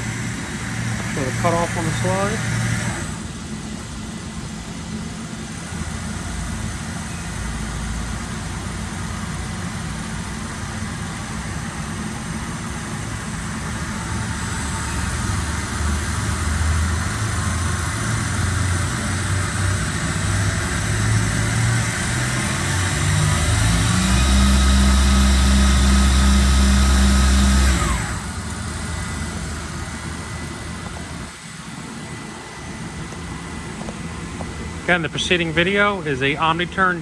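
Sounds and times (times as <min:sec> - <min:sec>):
lathe mechanical hum: 0:00.0 - 0:37.0.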